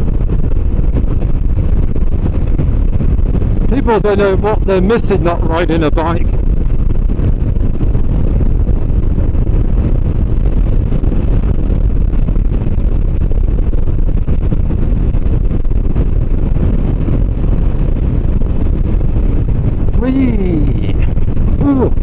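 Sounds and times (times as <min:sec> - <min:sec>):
motorcycle engine and tyre noise: 0:00.0 - 0:22.0
wind rush on microphone: 0:00.0 - 0:22.0.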